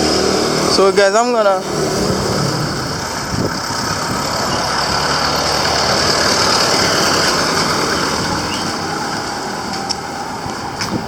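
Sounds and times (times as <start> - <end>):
street traffic: 0.0 - 11.0
vehicle engine running: 0.0 - 11.0.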